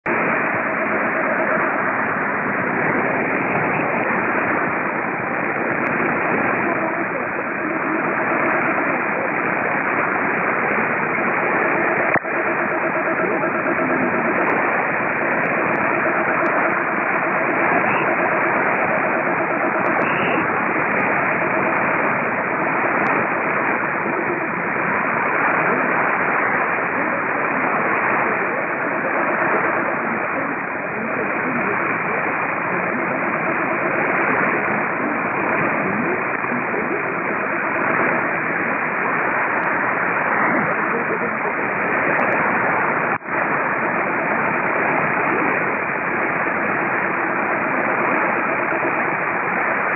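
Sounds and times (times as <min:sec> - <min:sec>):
radio hiss and static: 0:00.0 - 0:49.9
faint voice on radio: 0:00.1 - 0:49.9.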